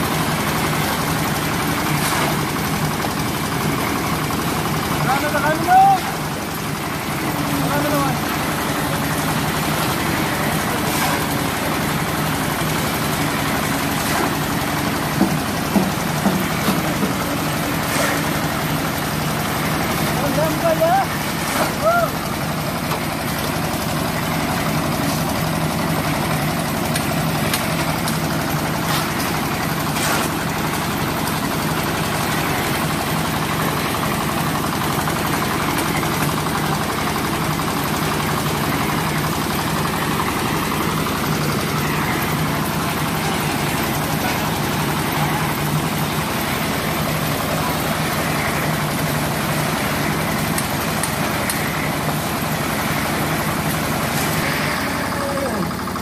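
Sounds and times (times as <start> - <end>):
concrete mixer engine droning: 0.0 - 56.0.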